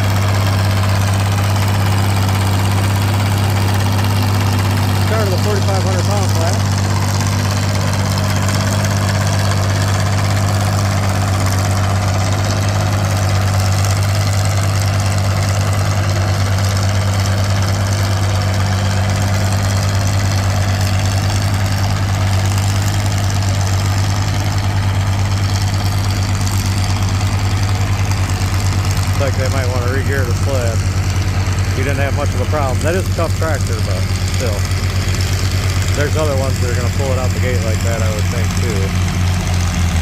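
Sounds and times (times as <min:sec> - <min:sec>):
tractor engine humming: 0:00.0 - 0:40.0.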